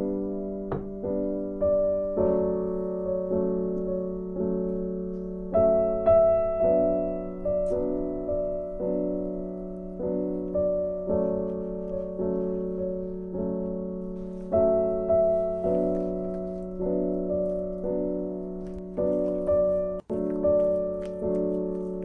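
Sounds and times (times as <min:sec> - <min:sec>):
gentle piano chords: 0:00.0 - 0:22.0.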